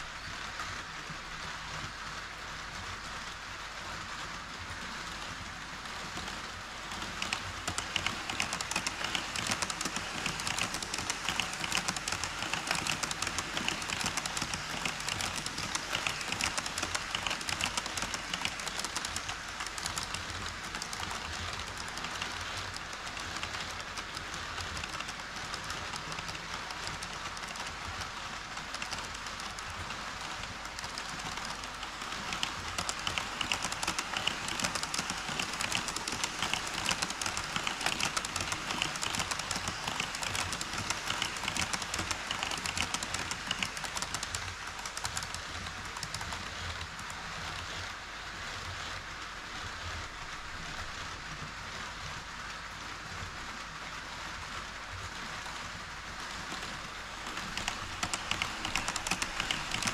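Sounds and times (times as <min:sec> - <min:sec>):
model train clattering on track: 0:00.0 - 0:51.6, 0:52.4 - 0:59.9.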